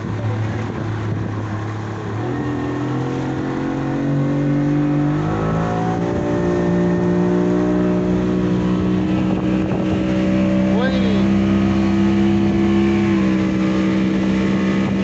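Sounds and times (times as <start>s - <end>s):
speedboat engine revving: 0.0s - 15.0s
water rushing along hull: 0.0s - 15.0s.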